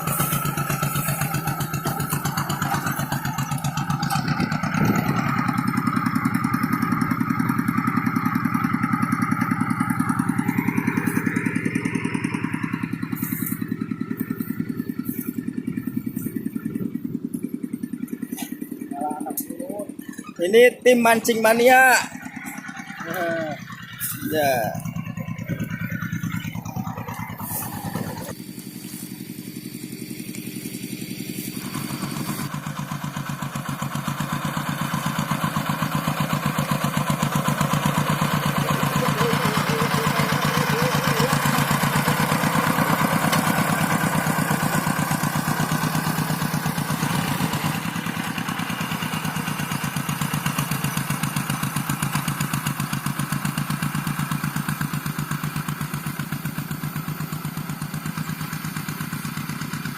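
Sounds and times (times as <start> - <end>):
tractor engine chugging: 0.0 - 59.9.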